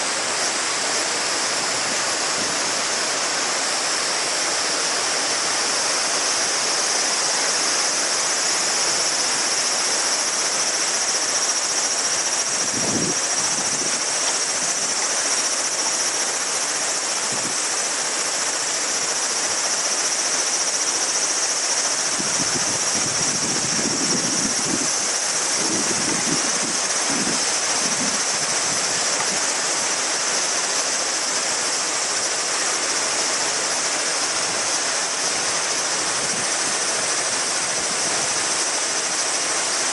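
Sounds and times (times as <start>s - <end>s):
cicadas chorus: 0.0s - 39.9s
river stream rushing: 0.0s - 39.9s.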